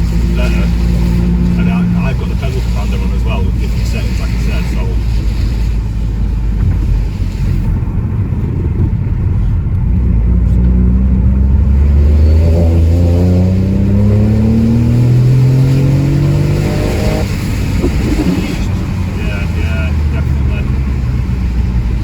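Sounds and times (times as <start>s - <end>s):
turbo car engine accelerating: 0.0s - 22.0s.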